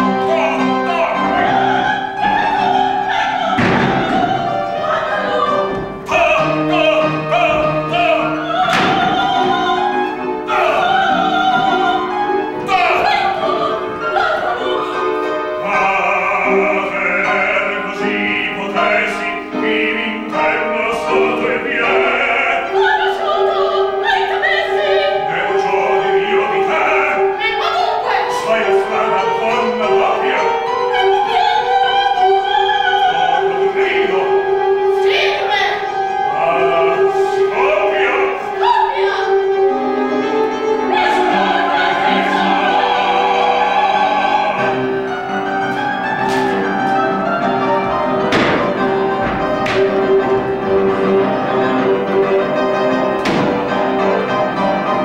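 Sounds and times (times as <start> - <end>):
operatic singing: 0.0 - 55.0
piano accompaniment: 0.0 - 55.0.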